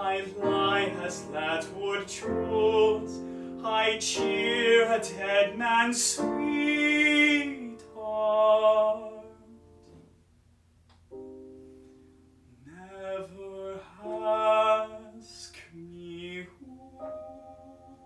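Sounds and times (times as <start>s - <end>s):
man singing: 0.0s - 9.6s, 12.6s - 18.0s
piano chords: 0.0s - 10.1s, 11.1s - 18.0s.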